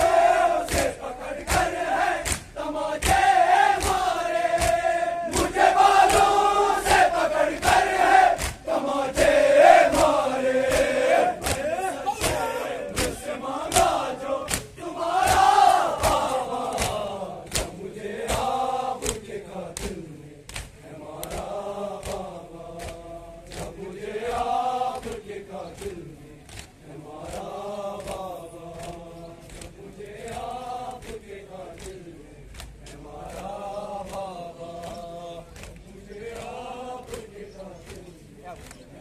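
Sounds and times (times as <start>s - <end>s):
hands slapping on chests: 0.0s - 38.9s
men chanting a lament: 0.0s - 39.0s.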